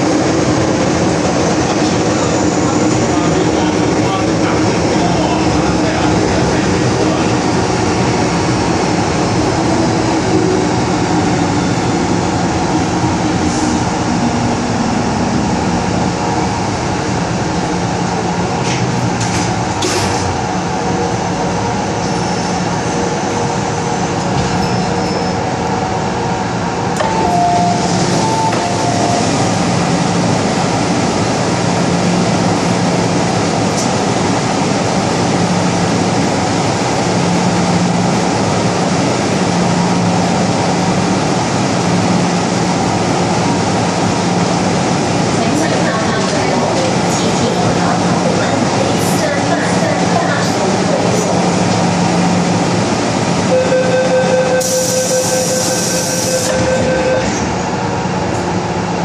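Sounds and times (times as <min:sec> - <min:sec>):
metro train rumbling: 0:00.0 - 0:59.0.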